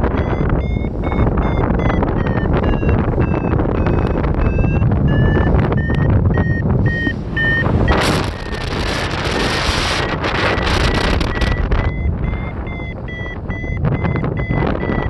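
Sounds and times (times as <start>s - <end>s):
variometer beeping: 0.0s - 15.0s
wind on microphone: 0.0s - 15.0s.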